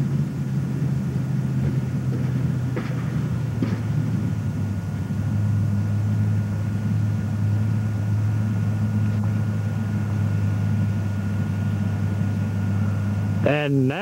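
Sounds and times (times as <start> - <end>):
tracked vehicle engine drone: 0.0 - 14.0.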